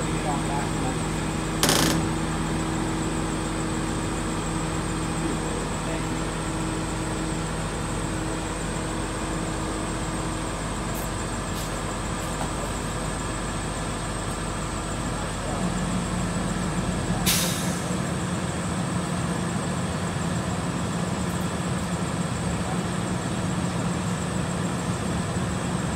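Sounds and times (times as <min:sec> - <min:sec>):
crane engine running: 0:00.0 - 0:25.9.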